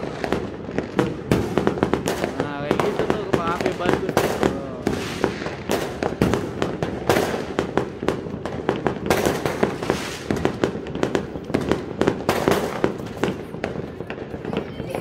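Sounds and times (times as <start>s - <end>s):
distant firework bursts: 0.0s - 15.0s
fireworks sharp bangs: 0.0s - 15.0s.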